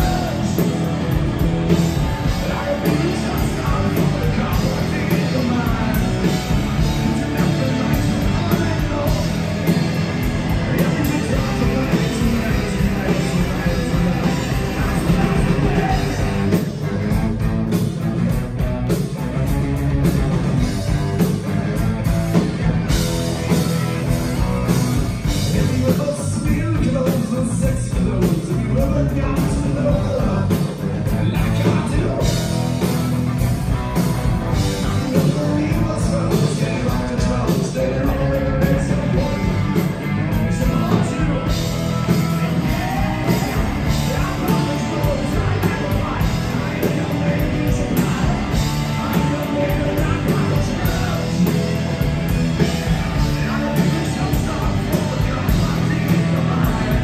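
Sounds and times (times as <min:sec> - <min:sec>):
man singing lead vocal: 0:00.0 - 0:17.4, 0:22.3 - 0:33.0, 0:34.4 - 0:57.0
live rock band playing: 0:00.0 - 0:57.0.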